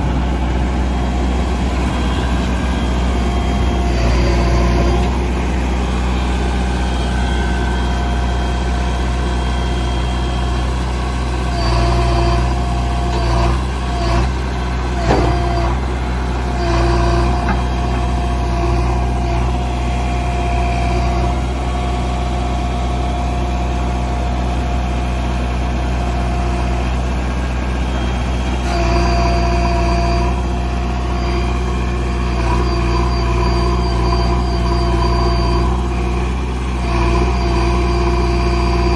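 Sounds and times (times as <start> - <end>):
diesel engine running with whine: 0.0 - 38.9.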